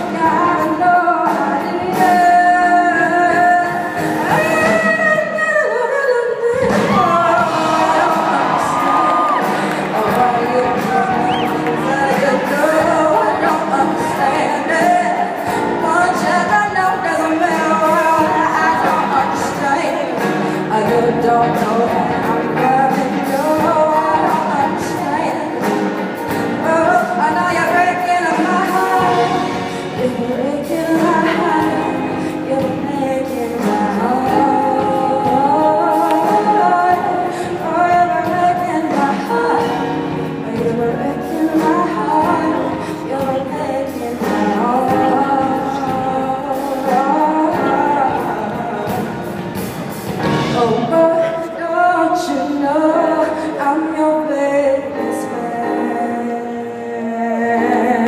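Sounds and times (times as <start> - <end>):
live pop song with band: 0.0 - 58.0
drums keeping time: 6.4 - 54.0.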